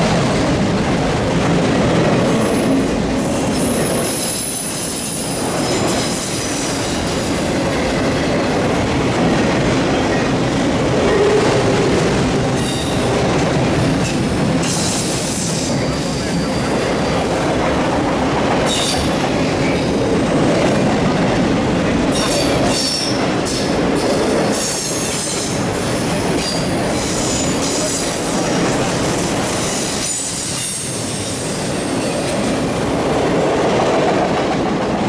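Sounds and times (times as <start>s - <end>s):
freight cars rumbling on rails: 0.0s - 35.0s.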